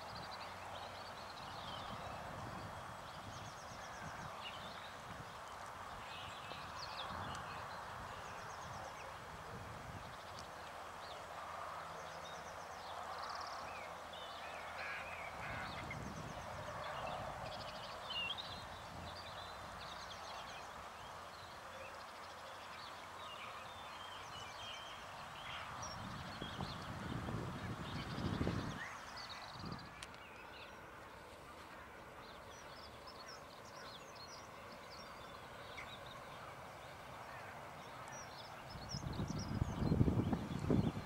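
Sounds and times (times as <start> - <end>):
steady outdoor hiss: 0.0 - 41.0.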